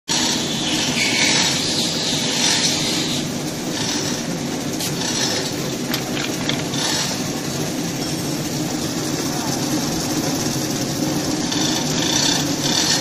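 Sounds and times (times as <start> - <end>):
paper cutting machine humming: 0.1 - 13.0.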